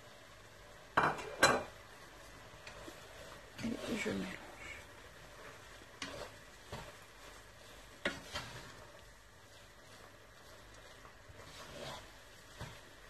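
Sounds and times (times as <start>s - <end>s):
faint sizzle of frying food: 0.0s - 13.0s
spatula stirring noodles in pan: 0.0s - 13.0s.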